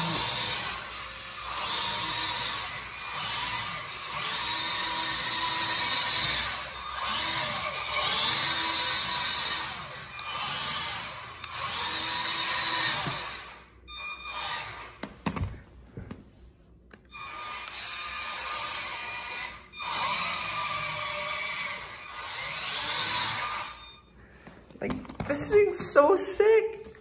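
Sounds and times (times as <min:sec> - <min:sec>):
toy truck motor whining: 0:00.0 - 0:15.0, 0:17.1 - 0:24.0.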